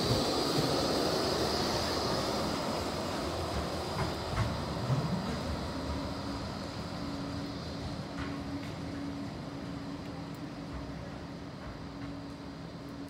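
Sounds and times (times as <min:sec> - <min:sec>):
high steady whine: 0:00.0 - 0:13.0
tram rolling: 0:00.0 - 0:13.0.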